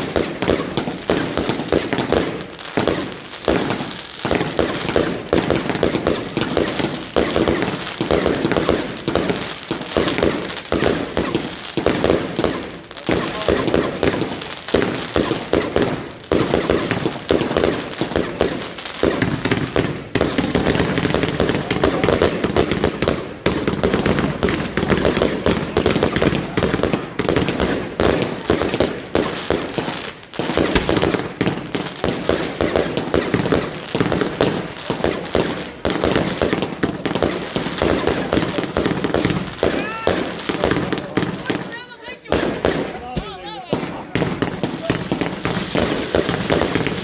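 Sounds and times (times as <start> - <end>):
rapid firecracker bangs and crackling: 0.0 - 47.0.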